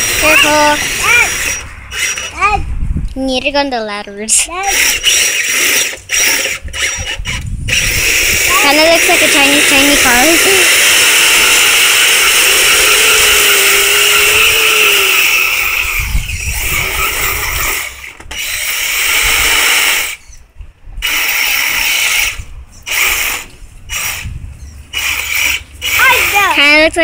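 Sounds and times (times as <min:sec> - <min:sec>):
toy car motor whining: 0:00.0 - 0:02.6, 0:04.5 - 0:20.4, 0:21.0 - 0:26.6.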